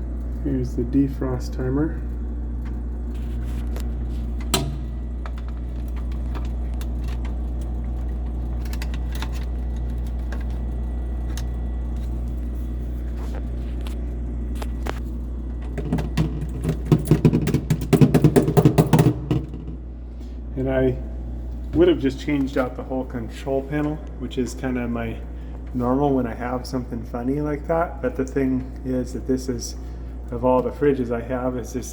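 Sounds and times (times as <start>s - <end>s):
low electrical hum: 0.0s - 31.9s.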